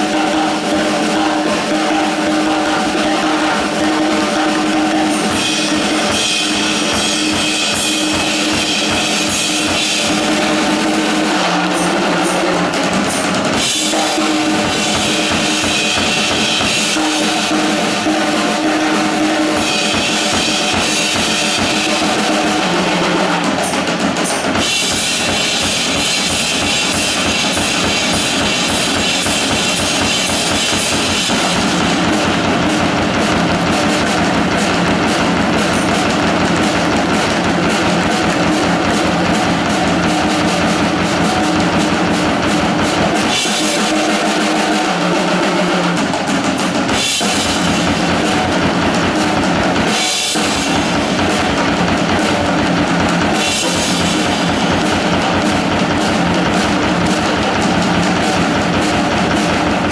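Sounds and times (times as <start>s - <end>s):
music with drum kit beat: 0.0s - 59.9s.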